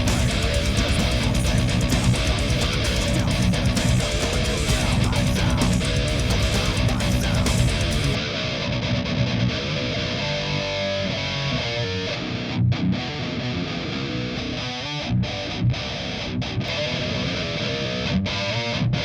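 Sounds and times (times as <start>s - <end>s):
distorted electric guitar metal riff: 0.0s - 19.0s.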